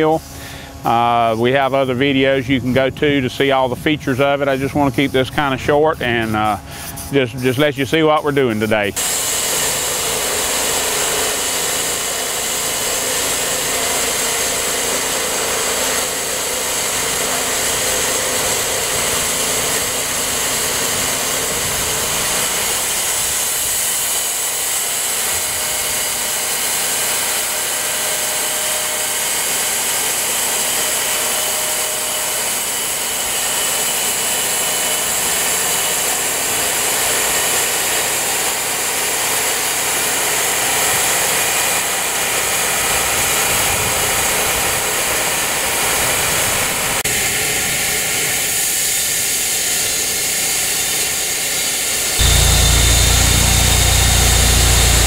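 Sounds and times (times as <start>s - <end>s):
band sawmill cutting wood: 0.0s - 55.0s.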